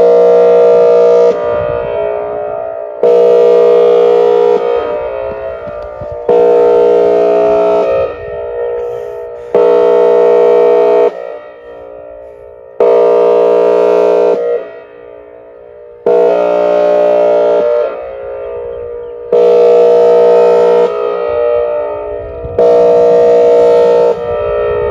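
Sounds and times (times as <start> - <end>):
warning siren horn blasts: 0.0 - 24.9.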